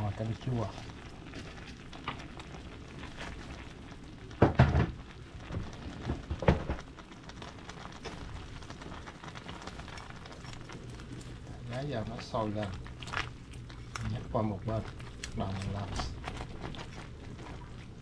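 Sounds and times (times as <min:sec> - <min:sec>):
soup bubbling: 0:00.0 - 0:18.0.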